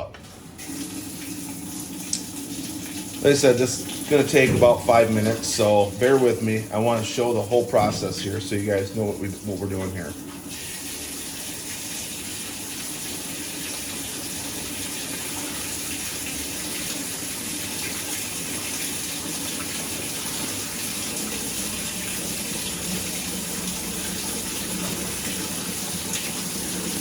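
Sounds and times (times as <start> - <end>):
water rushing into washing machine: 0.0 - 27.0.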